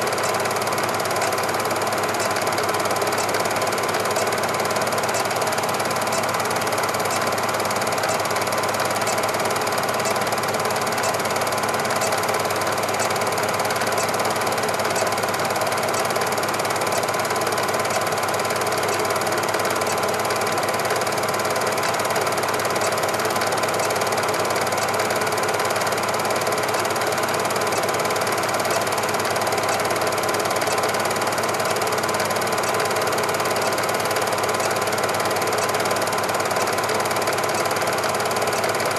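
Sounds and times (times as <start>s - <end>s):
film projector whirring: 0.0s - 38.9s
projector mechanism ticking: 0.0s - 38.9s.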